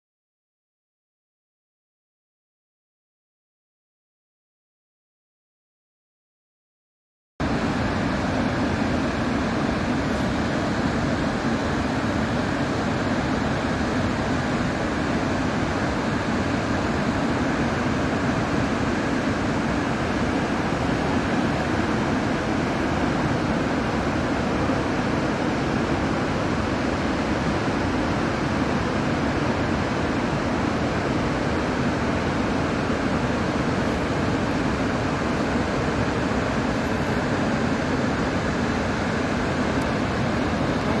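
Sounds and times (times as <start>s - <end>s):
waterfall rushing: 7.4s - 41.0s.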